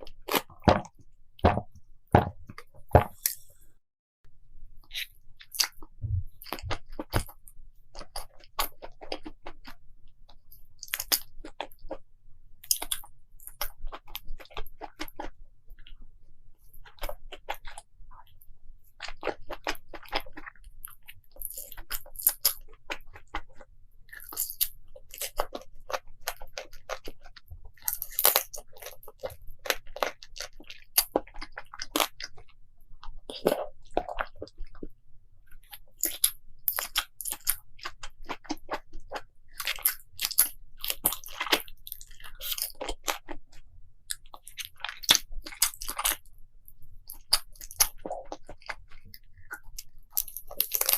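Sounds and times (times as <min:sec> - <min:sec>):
crunchy chewing: 0:00.0 - 0:01.0, 0:04.8 - 0:12.0, 0:16.8 - 0:18.4, 0:19.0 - 0:46.4, 0:47.1 - 0:50.9.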